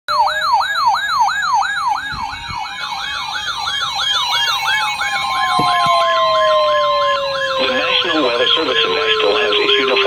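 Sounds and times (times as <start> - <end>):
electronic siren yelp: 0.1 - 10.0
siren wail: 0.1 - 10.0
steady siren tone: 0.1 - 10.0.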